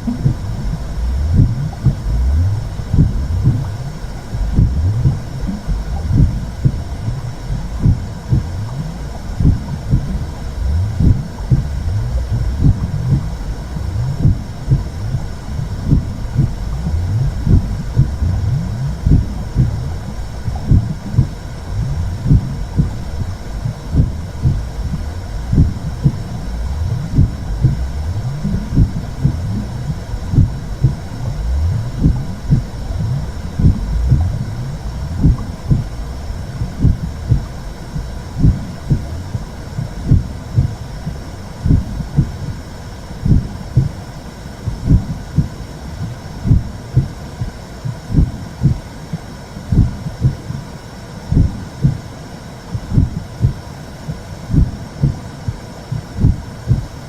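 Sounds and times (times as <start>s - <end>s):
low whooshing rumble: 0.0s - 48.8s
deep throbbing pulses: 0.0s - 50.6s, 52.7s - 57.0s.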